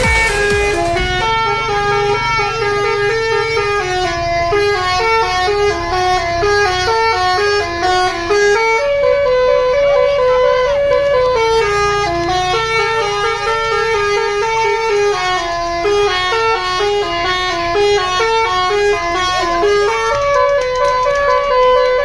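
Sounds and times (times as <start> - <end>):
bus horn playing melody: 0.0 - 22.0.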